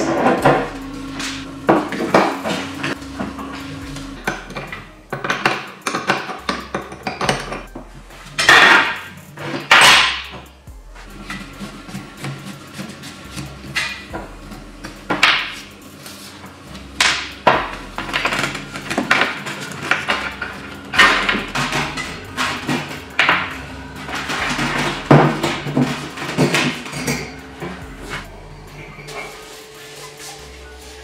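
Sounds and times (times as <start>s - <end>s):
background music: 0.0s - 31.0s.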